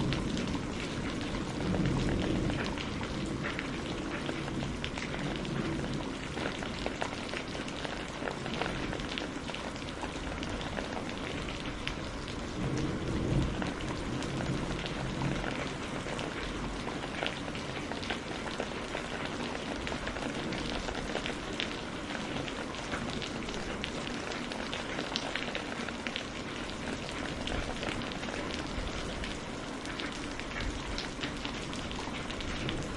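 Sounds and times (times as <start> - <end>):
rain pattering on a surface: 0.0 - 32.9.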